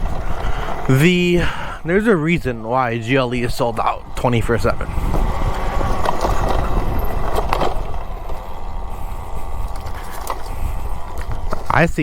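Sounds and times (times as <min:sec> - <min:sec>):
bike knocks and rattles: 0:00.0 - 0:12.0
tyres rumbling over dirt: 0:00.0 - 0:12.0.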